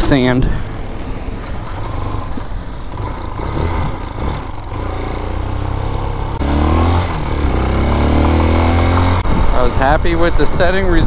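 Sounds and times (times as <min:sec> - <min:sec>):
motorcycle engine running: 0:00.7 - 0:11.0.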